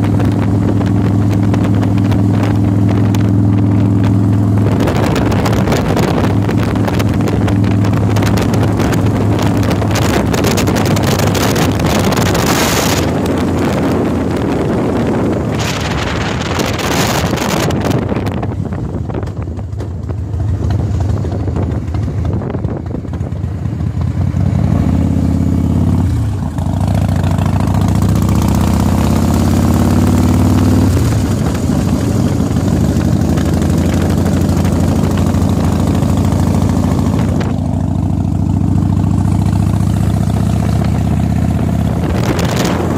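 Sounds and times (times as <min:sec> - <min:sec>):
heavy wind rush: 0:00.0 - 0:25.1, 0:26.0 - 0:42.9
motorcycle engine running: 0:00.0 - 0:42.9.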